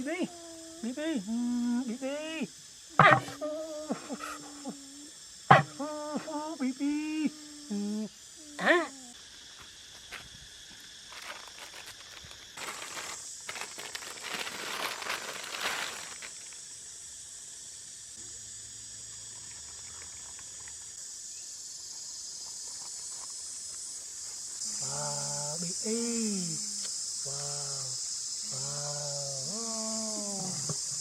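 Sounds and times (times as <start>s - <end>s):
high insect chorus: 0.0s - 31.0s.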